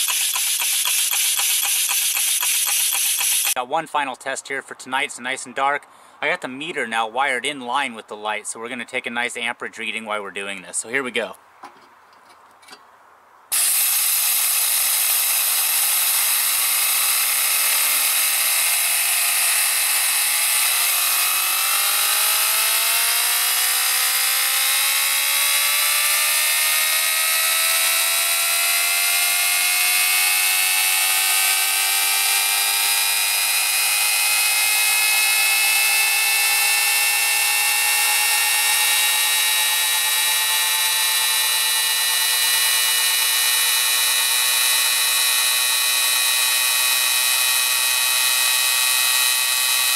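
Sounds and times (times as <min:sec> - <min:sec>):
turbine whine rising in pitch: 0:00.0 - 0:03.6, 0:13.5 - 0:49.9.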